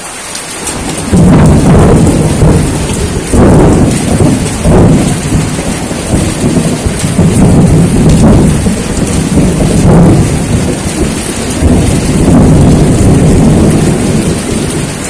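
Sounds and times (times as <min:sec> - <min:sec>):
heavy rain hissing: 0:00.0 - 0:15.0
rolling thunder: 0:00.6 - 0:15.0.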